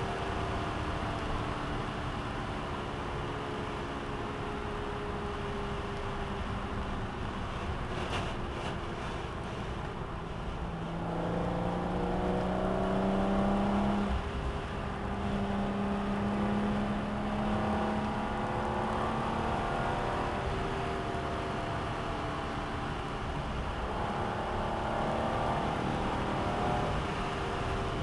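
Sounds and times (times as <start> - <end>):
car engine from inside cabin: 0.0 - 28.0
road and wind noise: 0.0 - 28.0.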